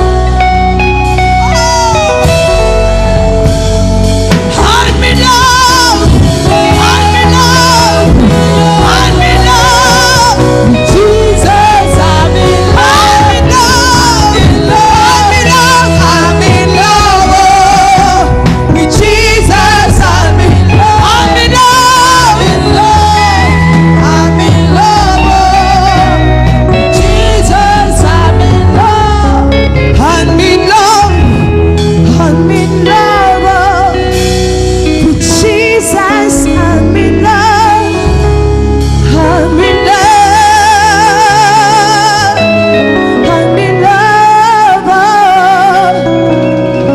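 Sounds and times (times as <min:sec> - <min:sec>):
keyboard chords and bass: 0:00.0 - 0:46.9
person singing with vibrato: 0:00.0 - 0:46.9.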